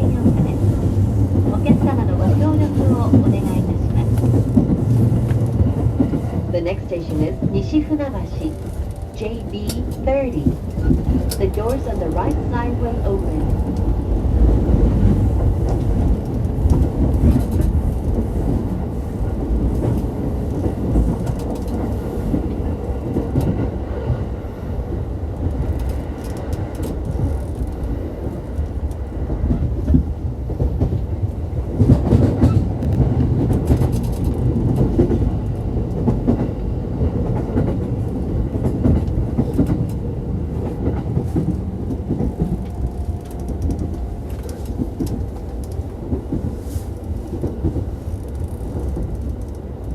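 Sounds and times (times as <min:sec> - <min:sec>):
train wheels rumbling on rails: 0:00.0 - 0:49.9.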